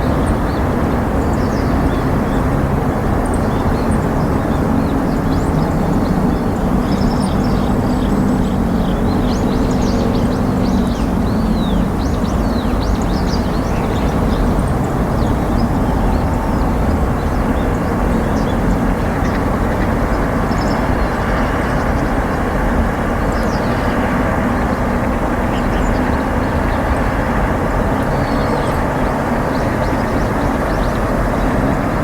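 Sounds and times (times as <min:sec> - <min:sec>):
loud outdoor rumble: 0:00.0 - 0:32.0
small birds chirping: 0:00.0 - 0:32.0.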